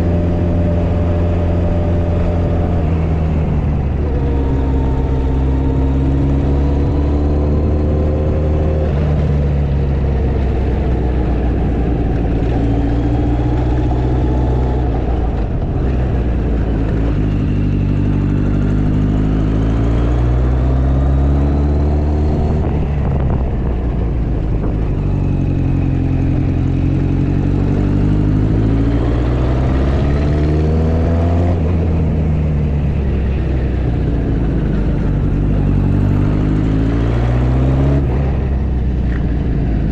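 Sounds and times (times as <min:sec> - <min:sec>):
motorcycle engine accelerating: 0:00.0 - 0:39.9
wind and road rush: 0:00.0 - 0:39.9.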